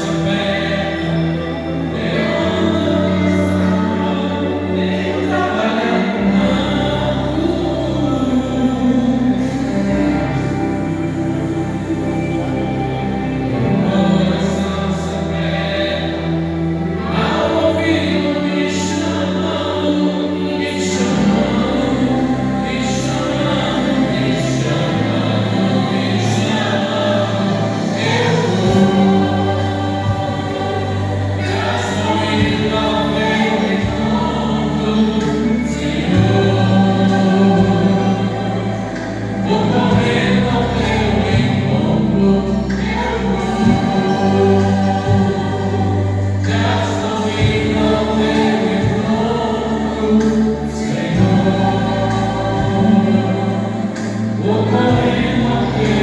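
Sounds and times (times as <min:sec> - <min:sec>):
musical accompaniment: 0:00.0 - 0:56.0
vocal group singing gospel: 0:00.0 - 0:56.0.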